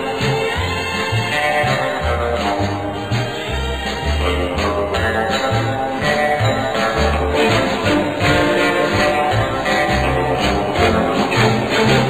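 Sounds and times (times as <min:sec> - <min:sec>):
background music with bass and guitar: 0:00.0 - 0:12.0.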